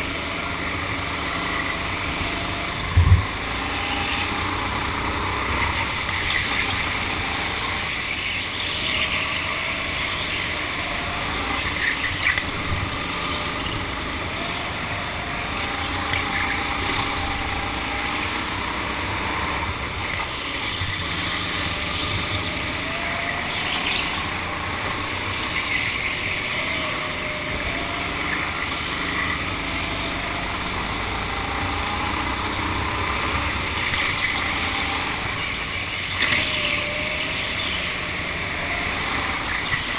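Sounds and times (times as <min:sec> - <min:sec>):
go-kart motor running: 0:00.0 - 0:39.9
wind and tyre noise: 0:00.0 - 0:39.9.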